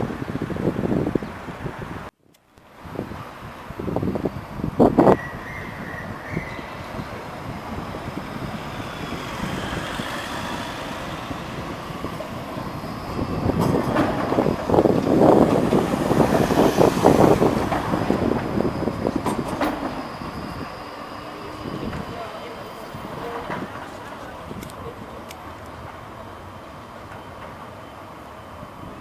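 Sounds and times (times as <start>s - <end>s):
tram rumbling past: 0.0s - 29.0s.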